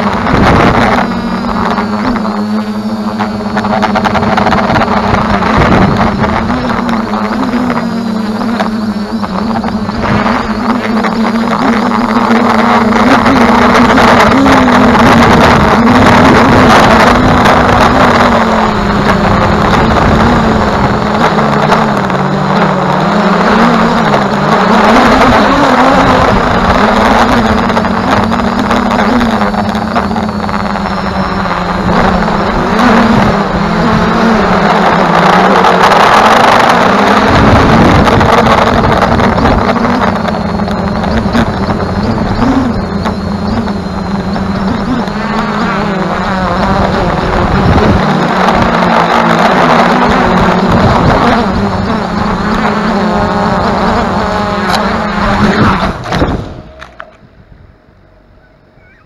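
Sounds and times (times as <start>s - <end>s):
drone motors humming: 0.0s - 59.0s
propeller wash and wind: 0.0s - 59.0s.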